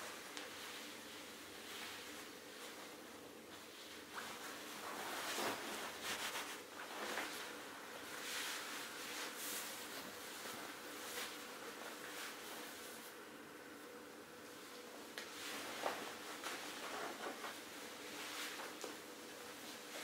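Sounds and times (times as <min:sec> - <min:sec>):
fabric pillow rustling: 0:00.1 - 0:13.1, 0:15.3 - 0:18.8.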